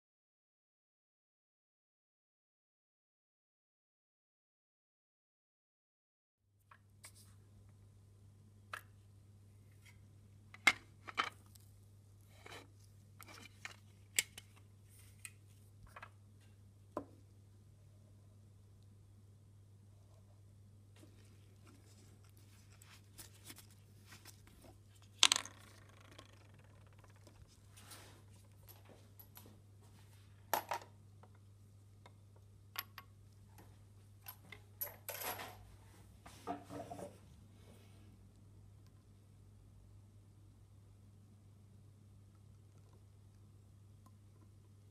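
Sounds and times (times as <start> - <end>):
low electrical hum: 6.6 - 44.9.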